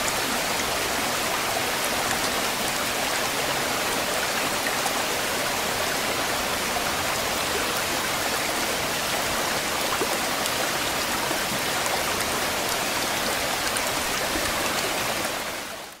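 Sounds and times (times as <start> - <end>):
rushing water hiss: 0.0 - 16.0.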